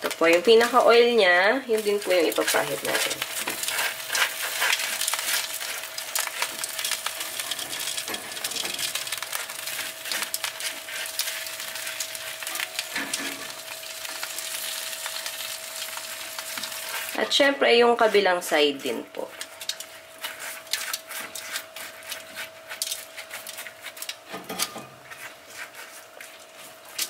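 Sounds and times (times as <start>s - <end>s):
pork skin sizzling and crackling: 0.0s - 27.0s.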